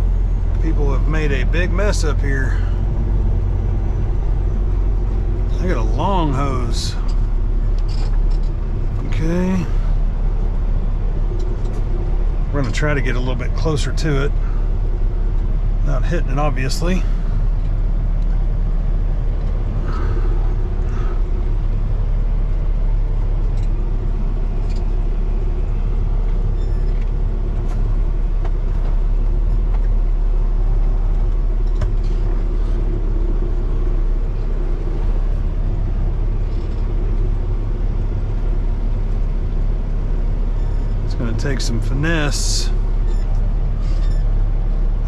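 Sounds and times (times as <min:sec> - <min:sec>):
diesel truck engine rumbling: 0:00.0 - 0:45.0.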